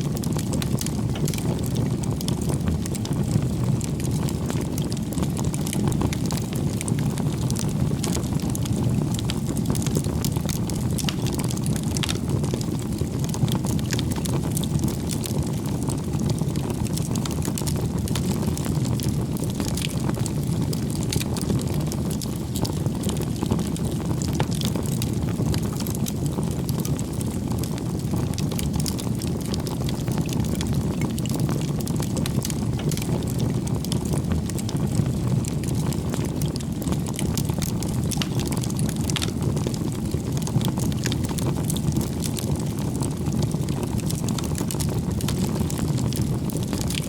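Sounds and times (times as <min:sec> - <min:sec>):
bonfire crackling and popping: 0:00.0 - 0:47.0.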